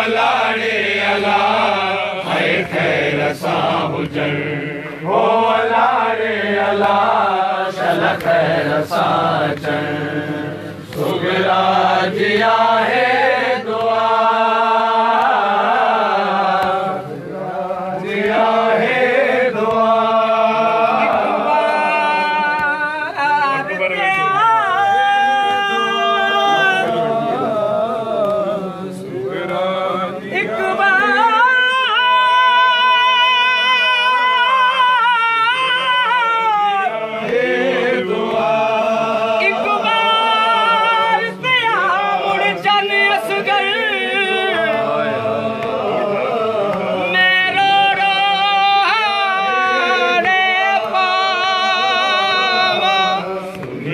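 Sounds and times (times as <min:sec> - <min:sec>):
voices singing mourning elegy: 0:00.0 - 0:53.9.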